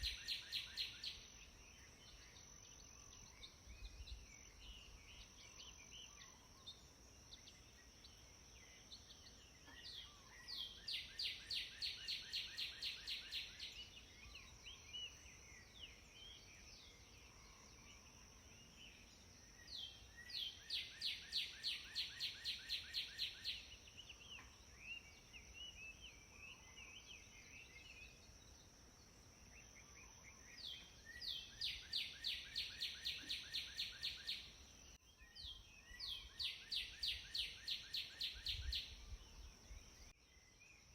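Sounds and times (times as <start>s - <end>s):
faint bird chirps: 0.0s - 40.9s.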